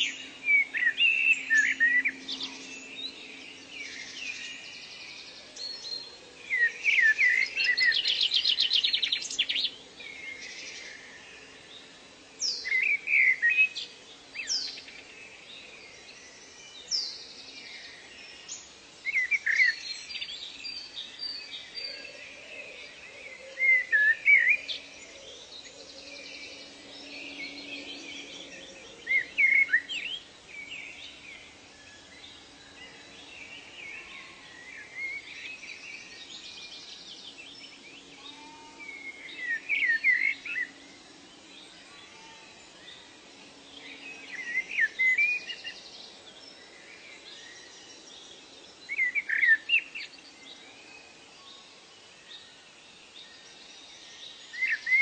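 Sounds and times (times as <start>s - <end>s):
faint steady hum: 0.0s - 55.0s
wild birds singing and calling: 0.0s - 55.0s.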